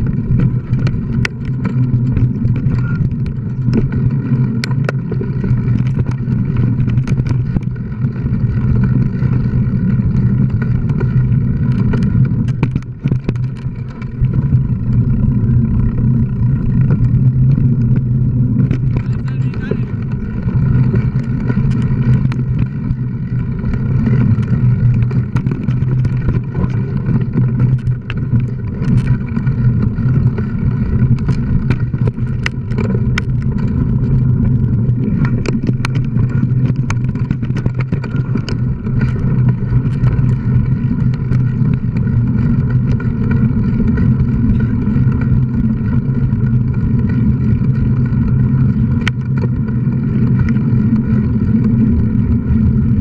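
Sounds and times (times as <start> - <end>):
bike clicks and knocks over bumps: 0.0 - 53.0
wind and tyres rumbling: 0.0 - 53.0.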